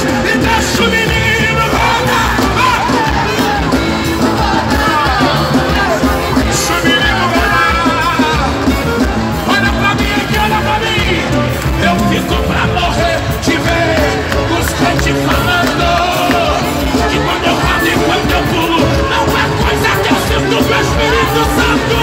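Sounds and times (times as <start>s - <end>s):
band playing loudly: 0.0s - 22.0s
voices singing: 0.0s - 22.0s.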